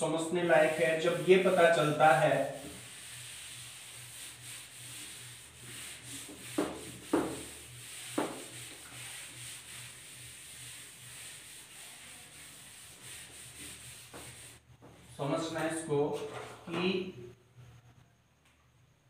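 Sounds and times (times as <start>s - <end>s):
duster rubbing a whiteboard: 0.1s - 15.7s.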